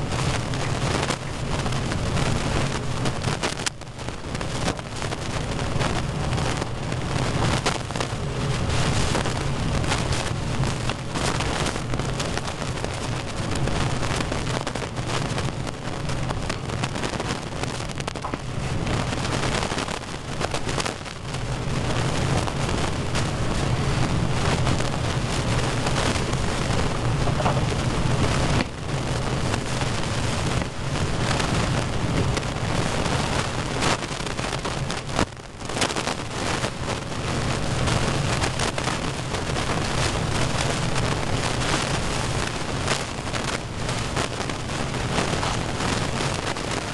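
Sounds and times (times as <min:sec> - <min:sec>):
constant low hum: 0:00.0 - 0:46.9
heavy rain falling: 0:00.0 - 0:46.9.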